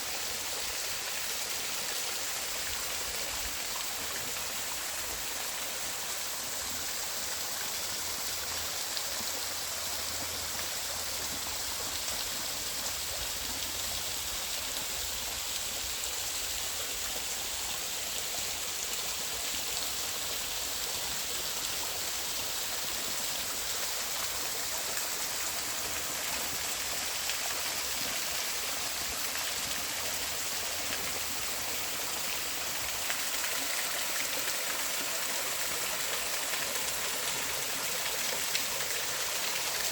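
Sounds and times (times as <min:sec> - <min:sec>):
creek water cascading: 0:00.0 - 0:39.9.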